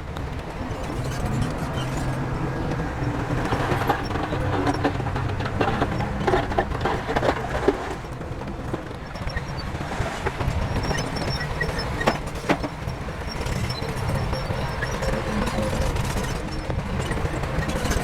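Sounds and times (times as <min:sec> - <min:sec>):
diesel machinery running: 0:00.0 - 0:18.0.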